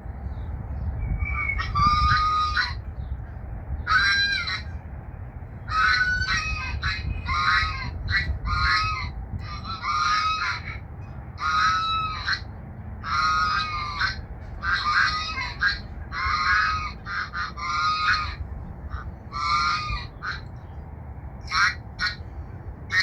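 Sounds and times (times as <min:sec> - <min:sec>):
steady low rumble: 0:00.0 - 0:23.0
geese honking: 0:01.2 - 0:04.9, 0:05.6 - 0:20.8, 0:21.4 - 0:23.0.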